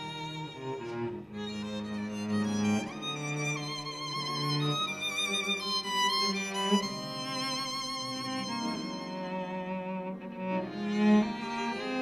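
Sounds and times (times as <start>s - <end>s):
cello: 0.0s - 12.0s
violin: 0.0s - 12.0s.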